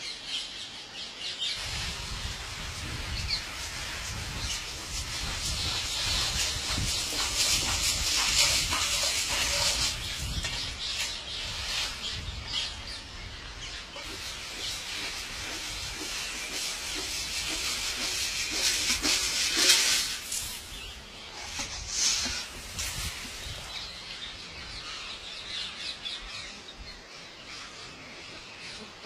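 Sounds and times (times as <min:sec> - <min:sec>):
birds calling faintly: 0:00.0 - 0:29.0.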